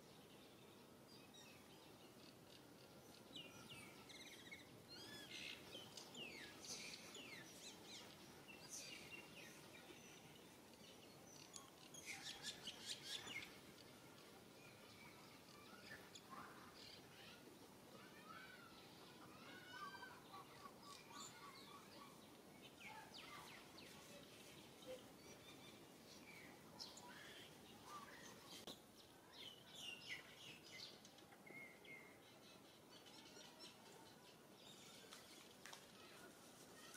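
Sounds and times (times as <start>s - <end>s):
faint birds chirping: 0.0s - 36.9s
low outdoor hiss: 0.0s - 36.9s.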